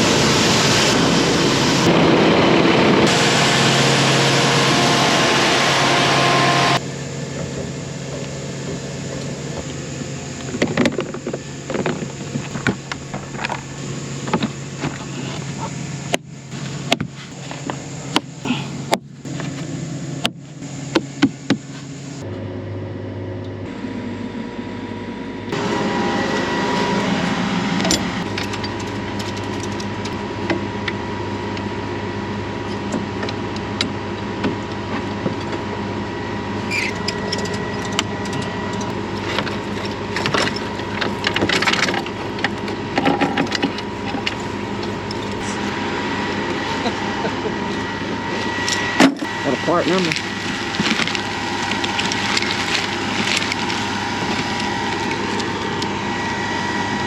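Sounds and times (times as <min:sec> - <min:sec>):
farm machinery engine running: 0:00.0 - 0:57.0.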